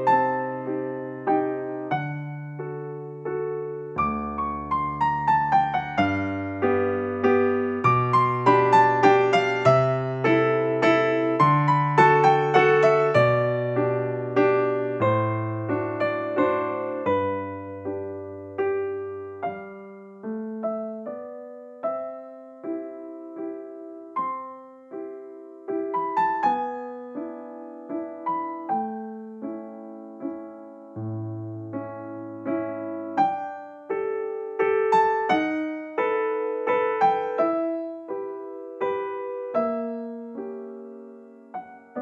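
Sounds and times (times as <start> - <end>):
slow piano melody: 0.0 - 42.0.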